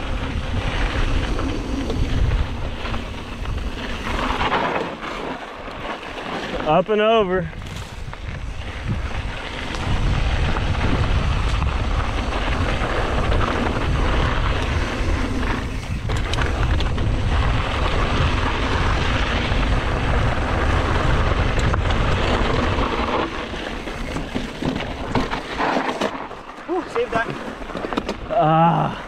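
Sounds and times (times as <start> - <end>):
bike clicks and rattles: 0.0 - 29.0
wind rumbling on microphone: 0.0 - 29.0
tyres crunching over gravel: 0.1 - 29.0.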